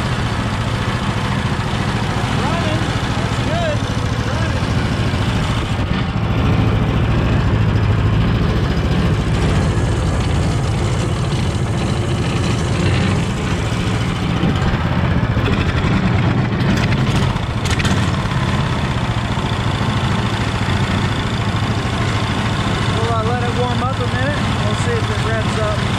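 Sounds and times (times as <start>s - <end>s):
boat engine running: 0.0s - 25.9s.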